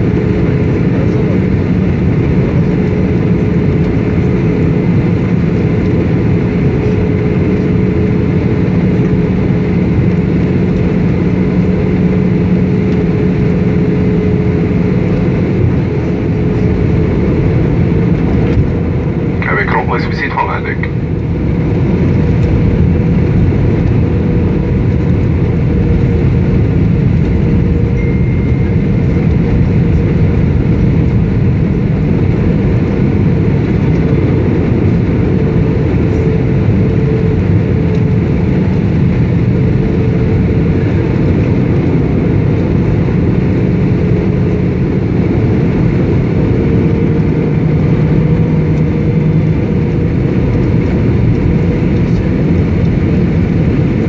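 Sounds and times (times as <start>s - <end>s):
airliner engine rumble: 0.0s - 54.0s.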